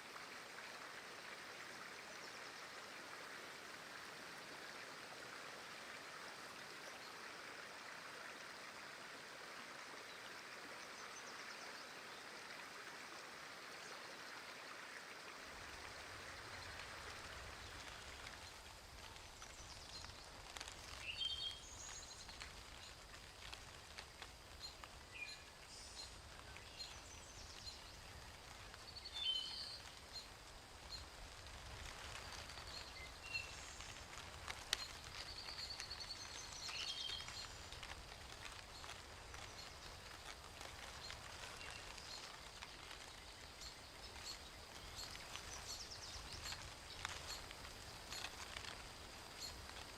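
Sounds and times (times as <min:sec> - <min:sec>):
running water rushing: 0:00.0 - 0:49.9.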